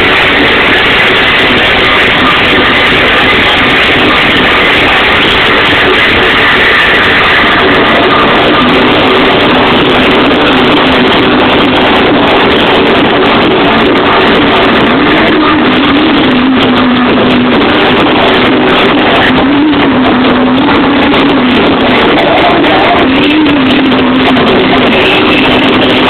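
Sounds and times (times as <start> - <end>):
distorted electronic dance music: 0.0 - 26.0.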